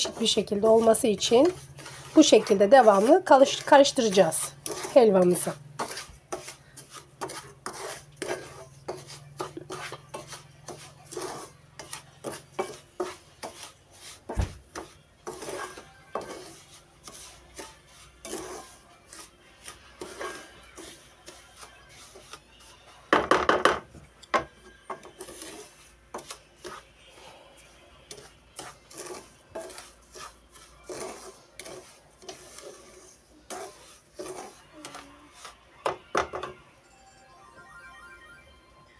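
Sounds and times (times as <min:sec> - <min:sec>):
spatula scraping pan: 0:00.0 - 0:23.8, 0:24.5 - 0:36.5.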